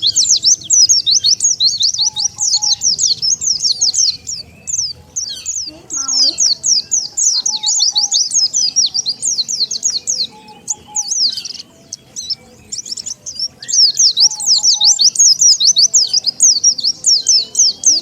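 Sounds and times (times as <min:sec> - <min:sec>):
birds twittering: 0:00.0 - 0:18.0.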